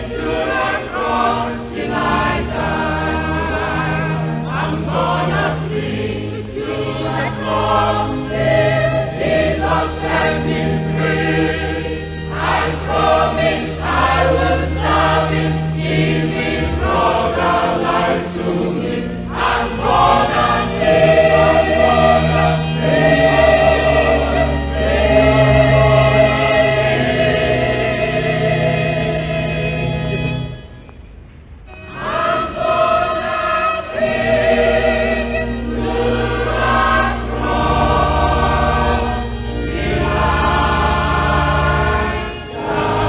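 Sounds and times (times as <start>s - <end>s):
choir singing gospel: 0.0s - 29.9s, 31.8s - 43.0s.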